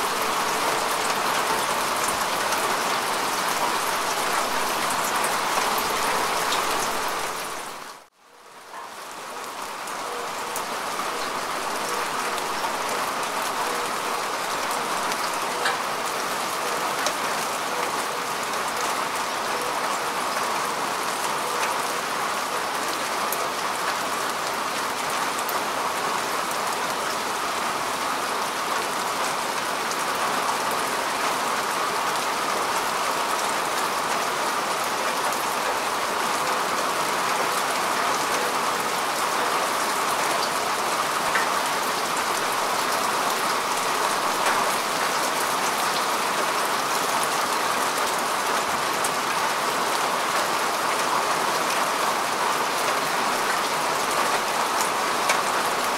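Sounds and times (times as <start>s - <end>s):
rain on grass: 0.0s - 55.9s.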